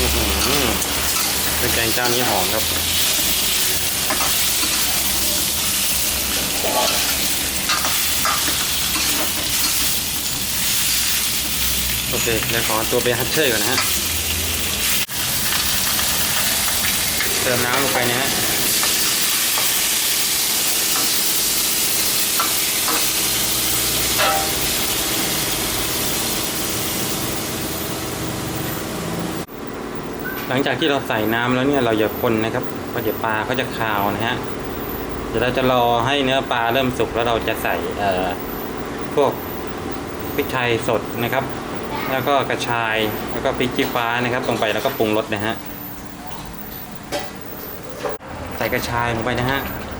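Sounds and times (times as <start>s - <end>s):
fish sizzling in oil: 0.0s - 29.6s, 30.5s - 46.2s.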